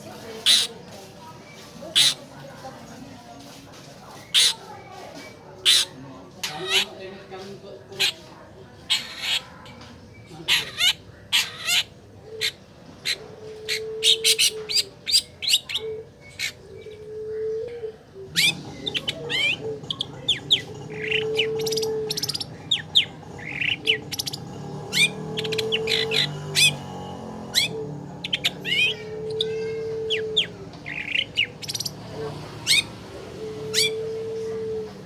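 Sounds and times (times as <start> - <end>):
bird chirps and squawks: 0.4 - 0.9, 1.9 - 2.3, 4.2 - 7.0, 7.9 - 35.0.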